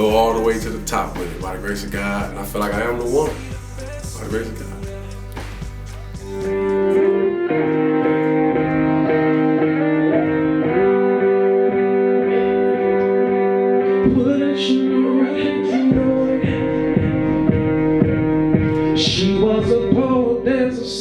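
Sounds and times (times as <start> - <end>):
sustained guitar chords: 0.0 - 21.0.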